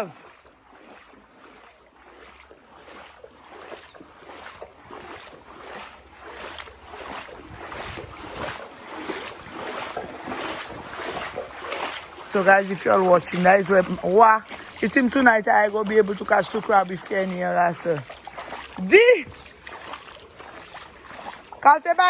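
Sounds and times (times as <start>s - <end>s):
rhythmic water splashing: 0.0s - 22.0s.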